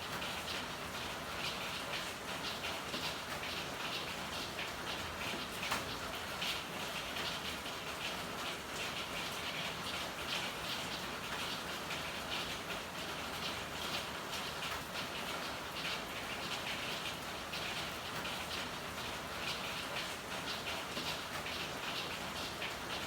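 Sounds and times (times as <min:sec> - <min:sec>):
raindrops on hard surfaces: 0:00.0 - 0:23.0
steady rain hiss: 0:00.0 - 0:23.0.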